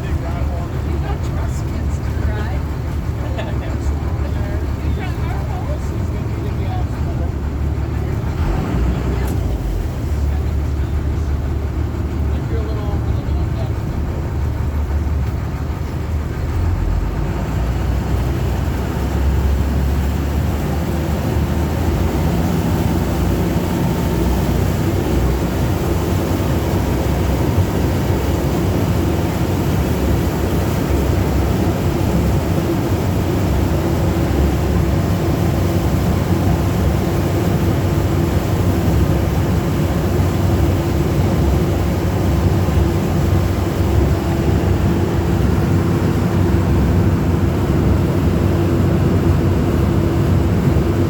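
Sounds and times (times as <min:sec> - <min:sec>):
boat engine droning: 0:00.0 - 0:51.0.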